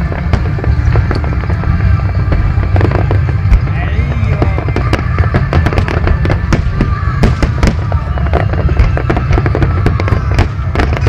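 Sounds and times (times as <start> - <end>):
fireworks bangs and crackles: 0.0 - 11.0
heavy low rumble: 0.0 - 11.0.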